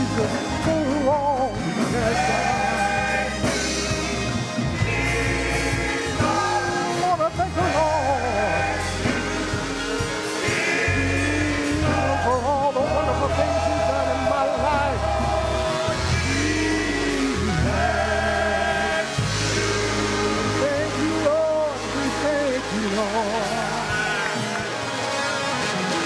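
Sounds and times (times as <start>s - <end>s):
gospel singing over a band: 0.0s - 26.0s.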